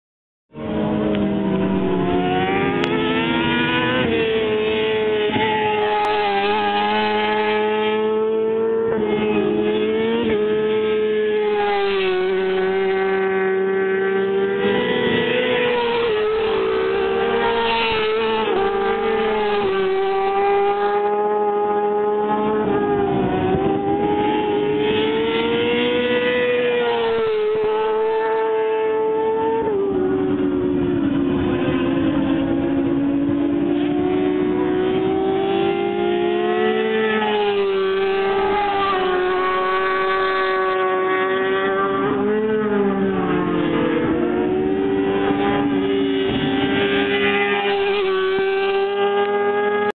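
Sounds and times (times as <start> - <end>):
racing motorcycle engines: 0.5 - 49.9.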